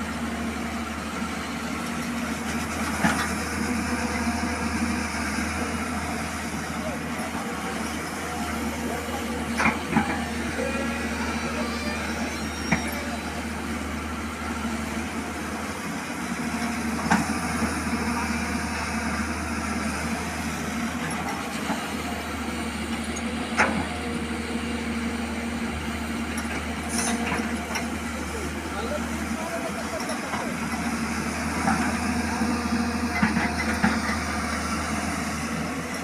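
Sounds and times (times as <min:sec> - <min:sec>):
excavator diesel engine idling: 0:00.0 - 0:36.0.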